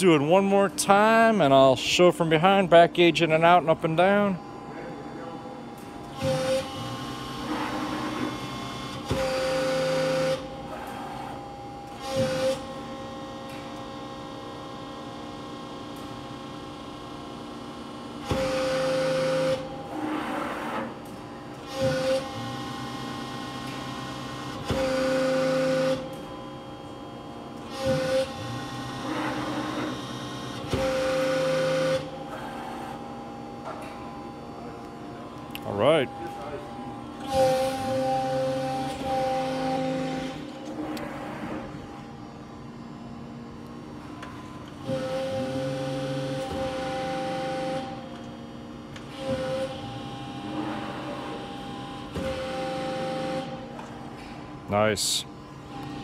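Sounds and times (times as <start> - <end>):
steady hydraulic hum: 0.0 - 56.0.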